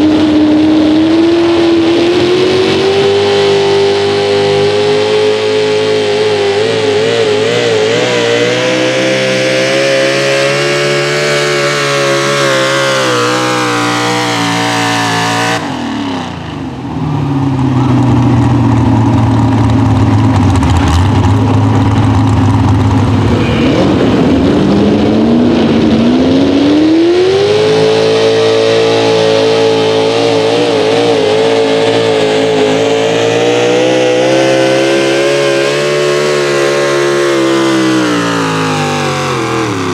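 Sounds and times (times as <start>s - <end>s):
pulling truck engine revving: 0.0s - 39.9s.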